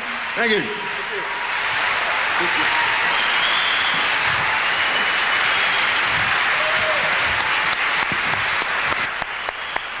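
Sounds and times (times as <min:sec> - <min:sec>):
audience applauding: 0:00.0 - 0:10.0
crowd cheering: 0:00.0 - 0:10.0.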